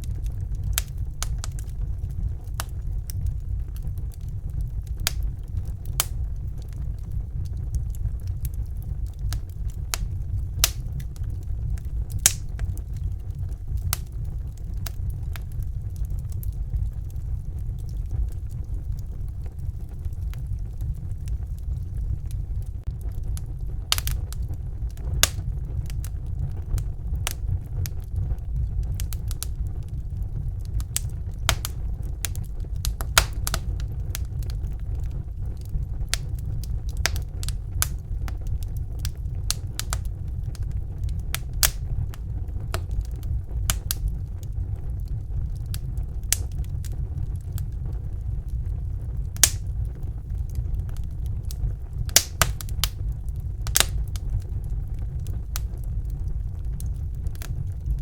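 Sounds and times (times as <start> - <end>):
low rumble: 0.0 - 58.0
wood fire crackling: 0.0 - 58.0.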